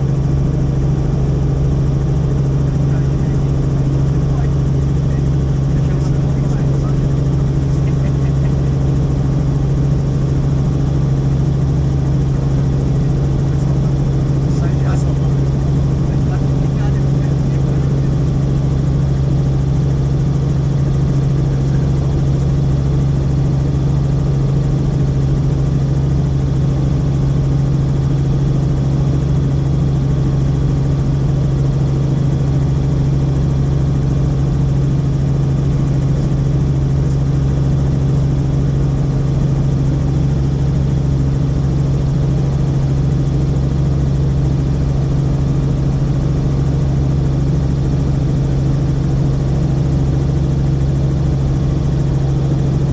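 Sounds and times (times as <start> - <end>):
helicopter engine and rotor drone: 0.0 - 52.9.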